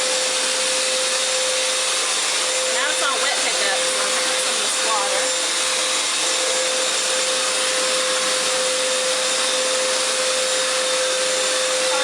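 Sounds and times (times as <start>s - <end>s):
floor cleaner motor whine: 0.0s - 12.0s.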